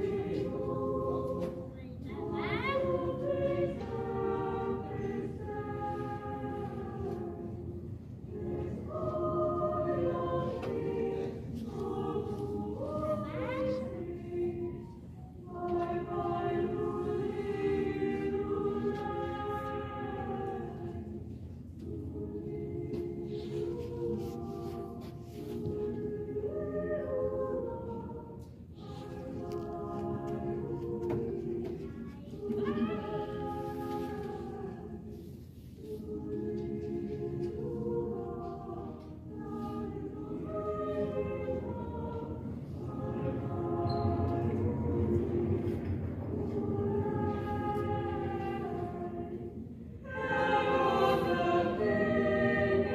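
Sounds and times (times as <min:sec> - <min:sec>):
choir singing a cappella: 0:00.0 - 0:52.9.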